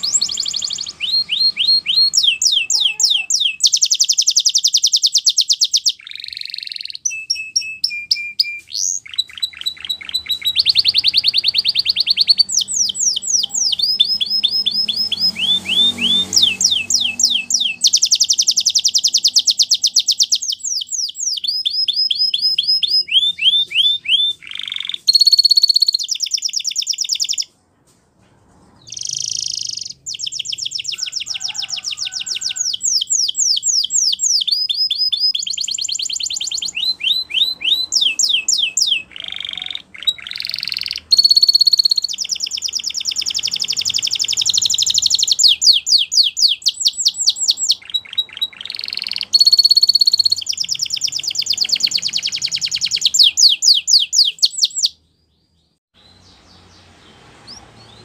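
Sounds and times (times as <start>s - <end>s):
canary singing trills: 0.0s - 27.5s, 28.8s - 58.0s.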